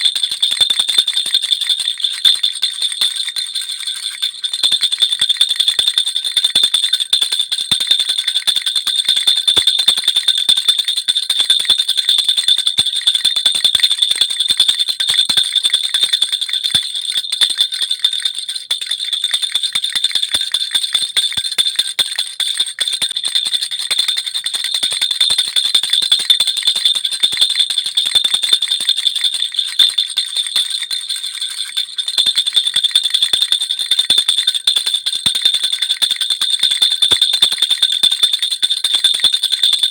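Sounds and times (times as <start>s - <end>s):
baby rattle jingling: 0.0s - 7.2s, 13.7s - 39.9s.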